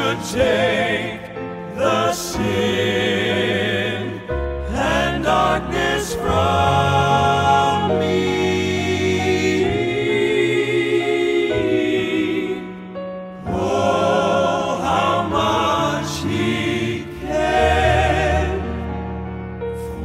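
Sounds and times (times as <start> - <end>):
male quartet singing in harmony: 0.0 - 20.0.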